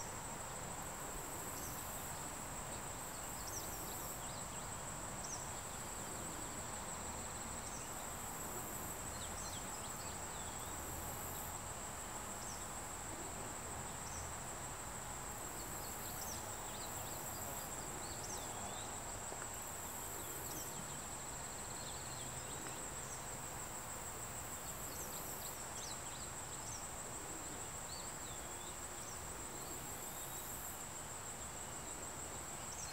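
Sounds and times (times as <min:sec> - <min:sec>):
high-pitched insect trill: 0:00.0 - 0:32.9.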